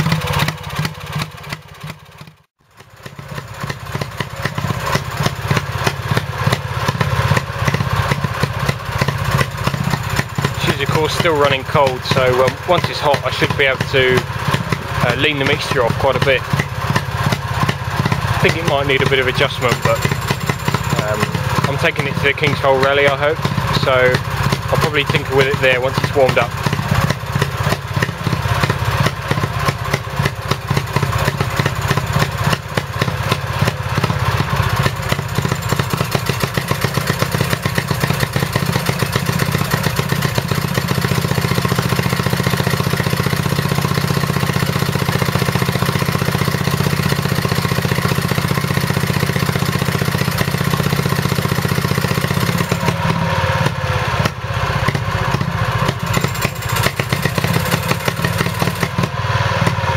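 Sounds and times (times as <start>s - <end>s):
two-stroke stationary engine running: 0.0s - 59.9s.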